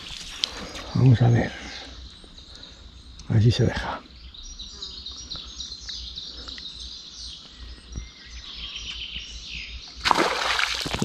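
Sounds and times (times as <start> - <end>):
songbirds chirping and trilling: 0.0 - 11.0.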